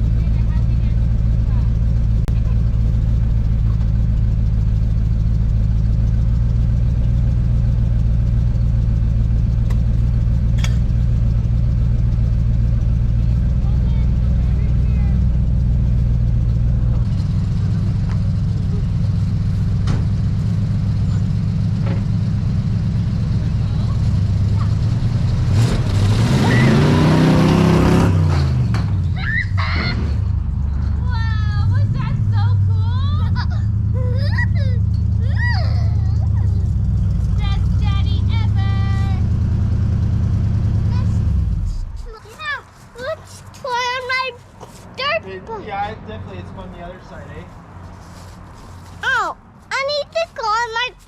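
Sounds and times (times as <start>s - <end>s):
vehicle engine idling: 0.0s - 51.0s.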